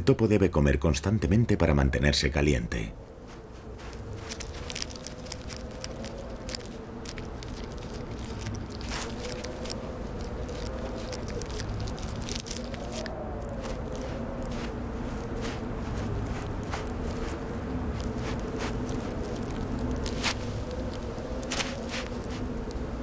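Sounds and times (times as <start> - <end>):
sand grains pattering: 2.7 - 23.0.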